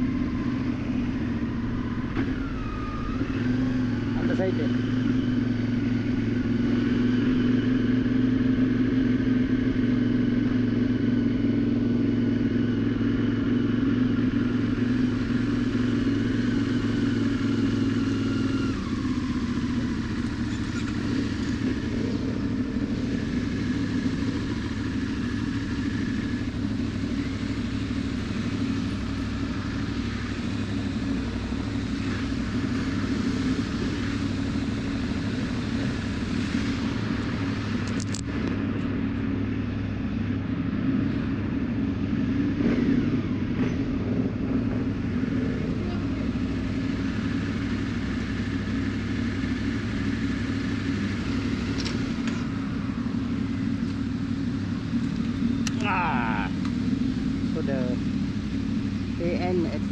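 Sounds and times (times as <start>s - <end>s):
motorcycle engine cruising: 0.0s - 59.9s
road and wind noise: 0.0s - 59.9s.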